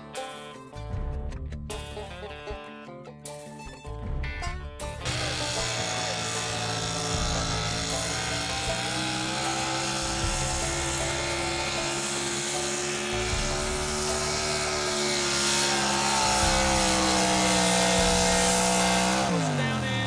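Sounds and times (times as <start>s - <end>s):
truck engine at full throttle: 3.9s - 20.0s.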